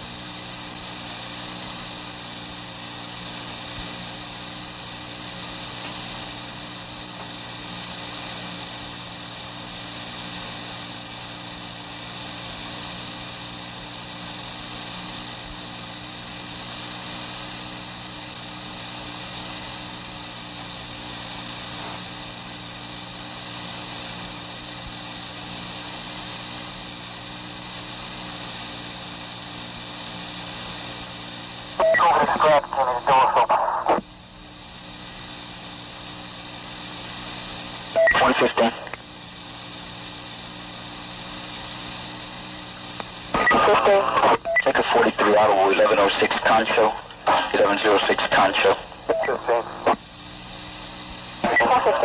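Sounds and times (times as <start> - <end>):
low electrical hum: 0.0 - 52.0
tape hiss: 0.4 - 52.0.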